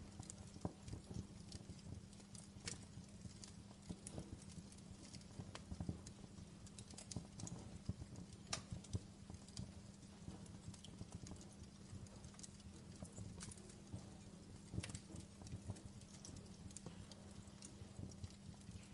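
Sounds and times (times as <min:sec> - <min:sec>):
faint low hum: 0:00.0 - 0:18.9
wood fire crackling: 0:00.0 - 0:18.9.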